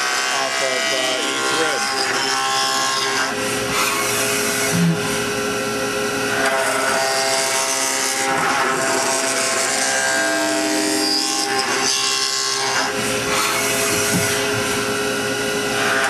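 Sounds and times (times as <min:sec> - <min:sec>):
milling machine spindle whine: 0:00.0 - 0:16.0.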